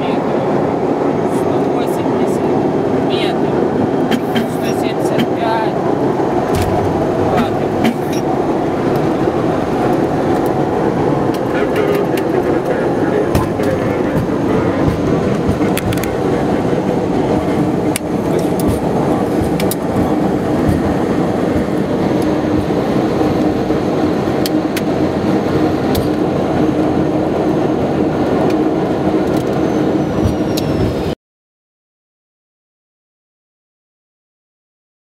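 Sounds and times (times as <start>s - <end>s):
engine and airframe rumble: 0.0s - 31.2s.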